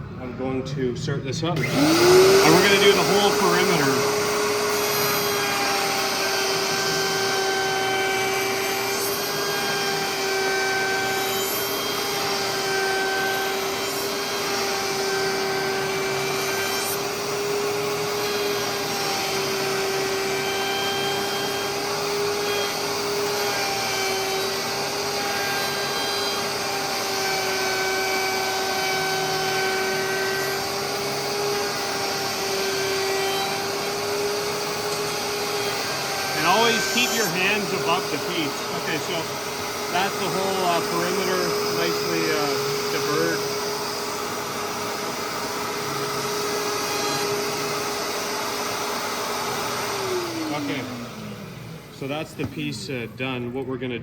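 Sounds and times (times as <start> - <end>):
router high-pitched whine: 1.4 - 54.0.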